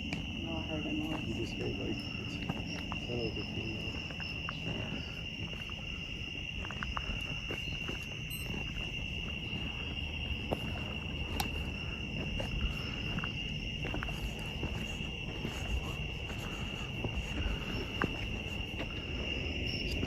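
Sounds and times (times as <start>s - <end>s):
crickets droning: 0.0s - 20.0s.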